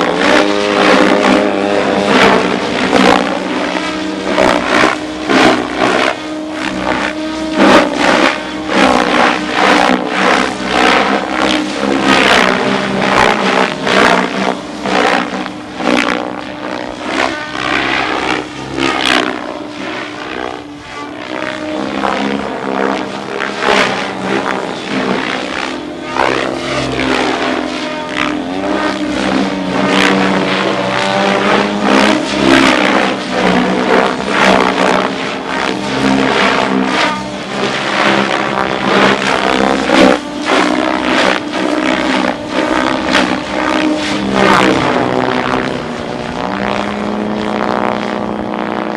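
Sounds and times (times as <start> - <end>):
helicopter blades whooshing: 0.0 - 48.9
steady motor drone: 0.0 - 48.9.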